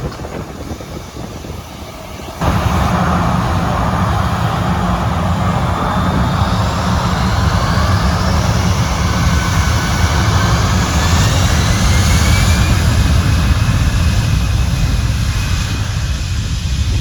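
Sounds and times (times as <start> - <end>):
airliner engines running: 0.0 - 17.0.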